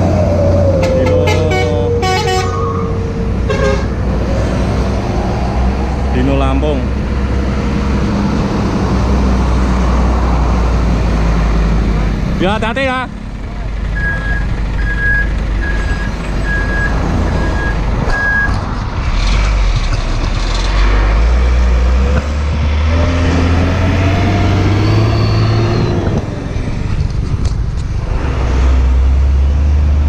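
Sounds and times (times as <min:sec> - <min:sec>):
truck engine accelerating: 0:00.0 - 0:30.0.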